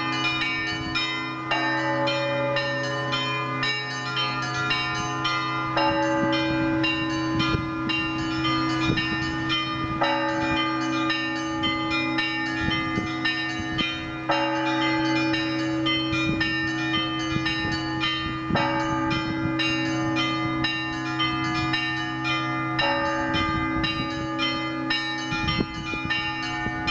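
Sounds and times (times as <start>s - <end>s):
heavy bell strikes: 0.0s - 26.9s
small bells chiming: 0.0s - 26.9s.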